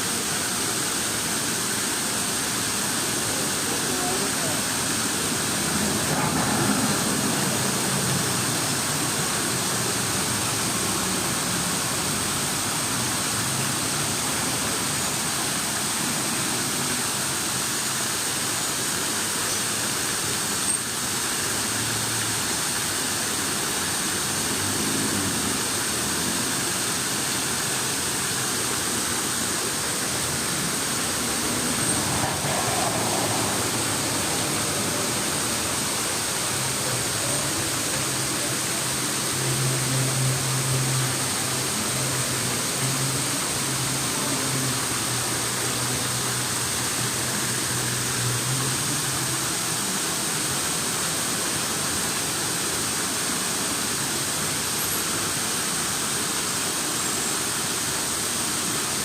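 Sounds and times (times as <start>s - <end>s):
rushing water hiss: 0.0s - 59.0s.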